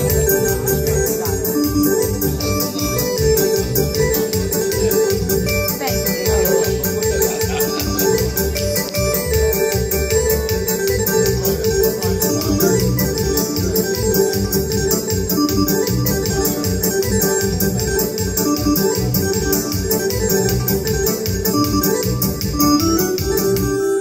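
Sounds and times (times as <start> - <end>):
electronic keyboard party music: 0.0 - 24.0.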